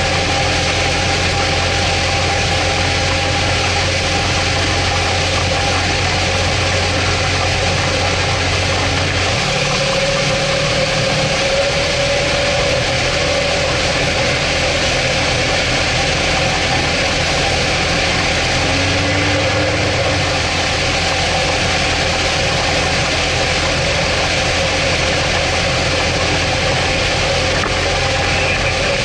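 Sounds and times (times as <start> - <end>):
outboard motor running: 0.0 - 29.0
water rushing and spray: 0.0 - 29.0.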